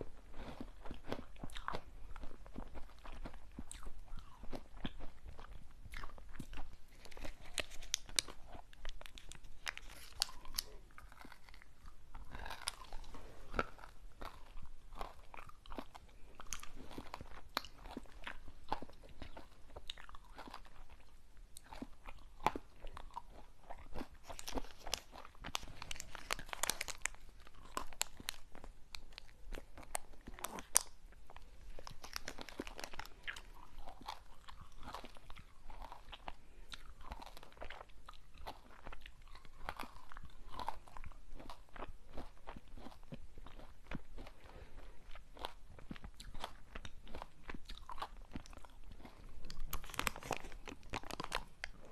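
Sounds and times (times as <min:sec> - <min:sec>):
crunchy sweets being chewed: 0:00.0 - 0:51.9.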